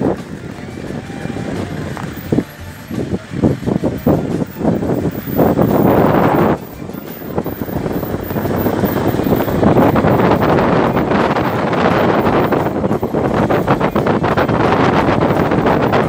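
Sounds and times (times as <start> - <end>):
car driving noise: 0.0 - 16.0
wind buffeting microphone: 0.0 - 16.0.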